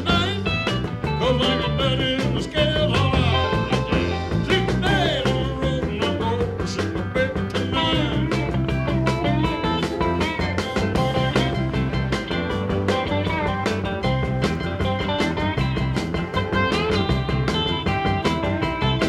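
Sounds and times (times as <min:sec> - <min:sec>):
upbeat ska song with steady beat: 0:00.0 - 0:19.0.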